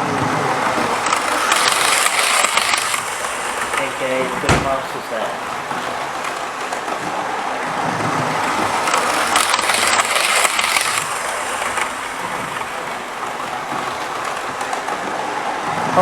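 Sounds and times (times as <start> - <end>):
model train rattling on track: 0.0 - 16.0.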